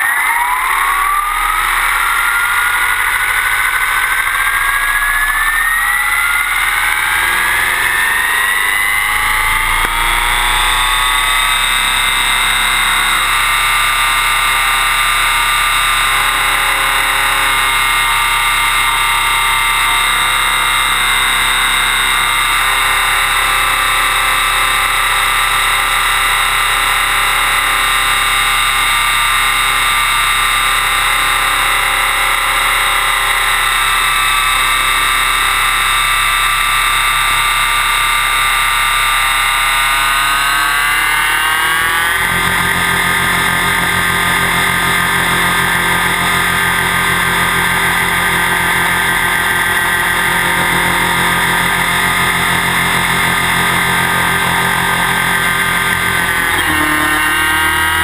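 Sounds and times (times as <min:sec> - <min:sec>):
electric motor whining: 0:00.0 - 0:58.0
rotor blades whirring: 0:00.0 - 0:58.0.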